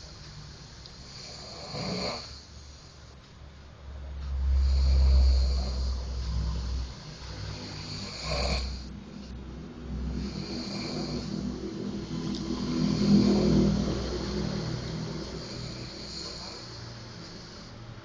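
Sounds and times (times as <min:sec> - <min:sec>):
person snoring: 0:00.5 - 0:03.1, 0:04.5 - 0:18.0.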